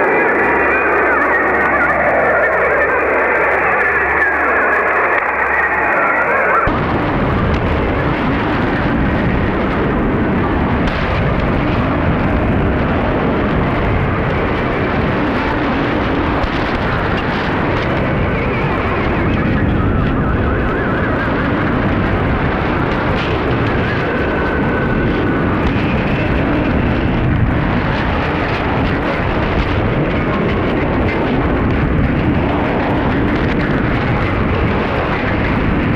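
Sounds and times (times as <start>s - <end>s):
rough radio noise signal: 0.0s - 35.9s.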